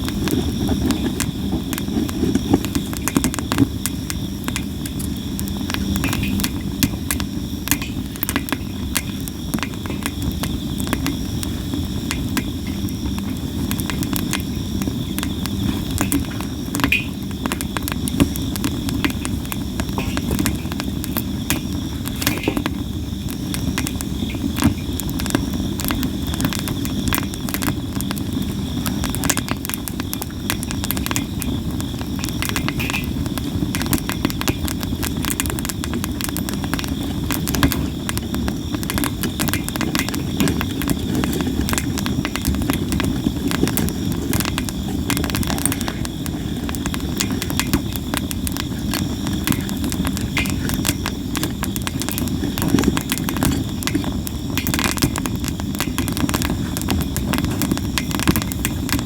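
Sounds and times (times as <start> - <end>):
campfire crackling and popping: 0.0 - 59.0
low rush of burning fire: 0.0 - 59.0.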